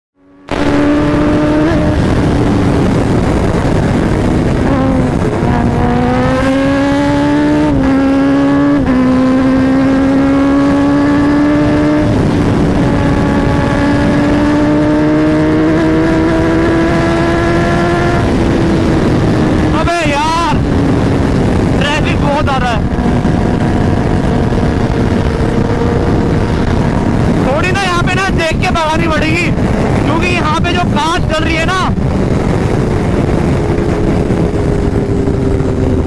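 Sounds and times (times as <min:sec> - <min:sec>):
motorcycle engine accelerating: 0:00.2 - 0:36.0
wind rushing: 0:00.2 - 0:36.0.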